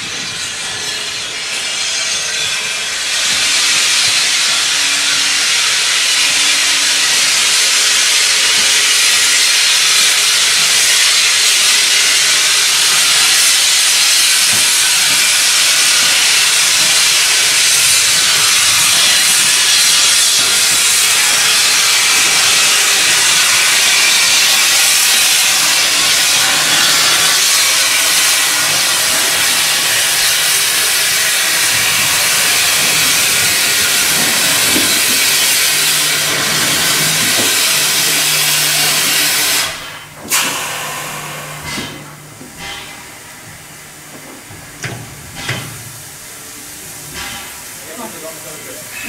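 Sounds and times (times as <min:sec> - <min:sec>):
steam hissing from locomotive: 0:00.0 - 0:49.0.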